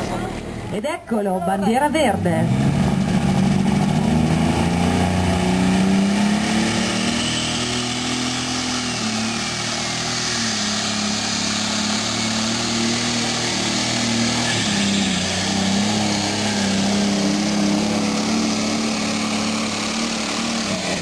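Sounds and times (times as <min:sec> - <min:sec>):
tractor engine under full load: 0:00.0 - 0:21.0.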